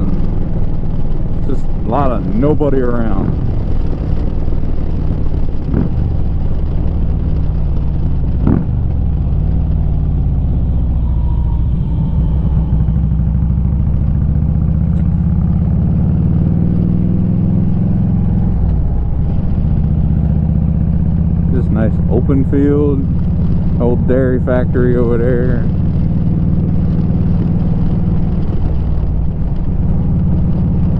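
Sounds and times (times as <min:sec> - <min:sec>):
motorcycle engine while riding: 0:00.0 - 0:30.9.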